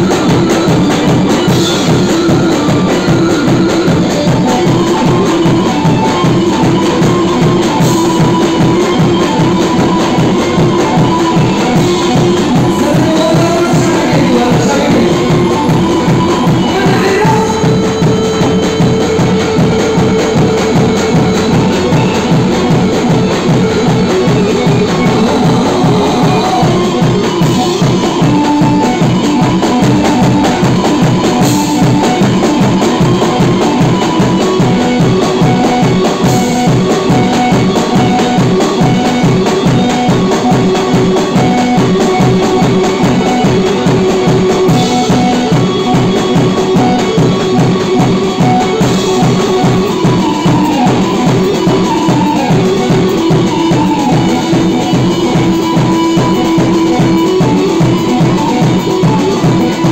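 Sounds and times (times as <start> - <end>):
arranger keyboard melody: 0.0 - 59.9
drum kit beat: 0.0 - 59.9
electric saz: 0.0 - 59.9.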